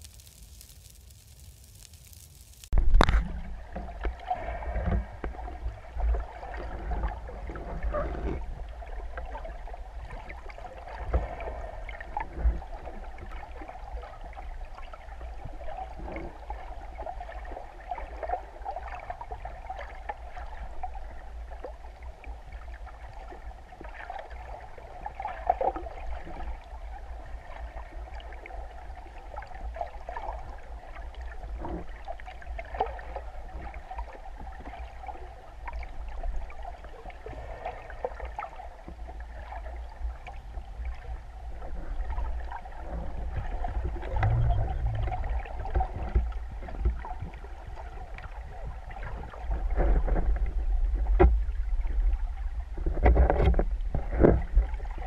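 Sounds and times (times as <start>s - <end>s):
underwater hiss and rumble: 0.0s - 55.0s.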